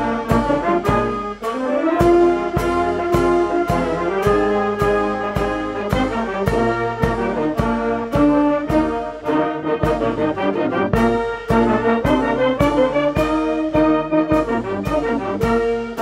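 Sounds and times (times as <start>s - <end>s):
brass band music: 0.0s - 16.0s
drum struck steadily: 0.0s - 16.0s.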